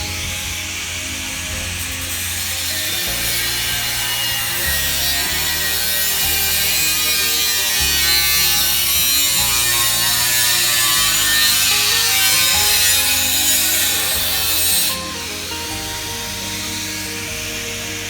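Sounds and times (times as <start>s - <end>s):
background music with bass line: 0.0s - 18.0s.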